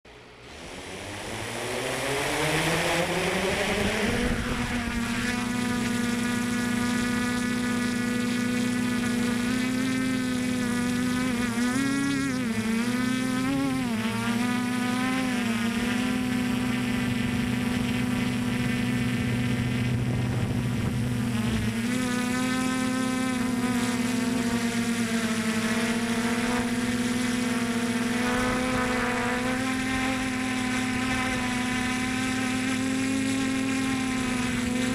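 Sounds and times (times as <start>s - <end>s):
drone propellers buzzing: 0.1s - 34.9s.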